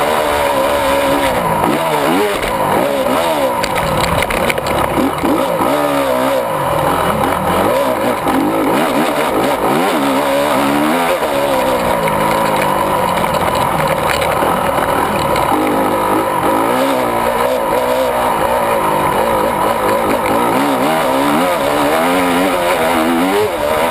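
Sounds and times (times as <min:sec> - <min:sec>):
motocross engine revving: 0:00.0 - 0:23.9.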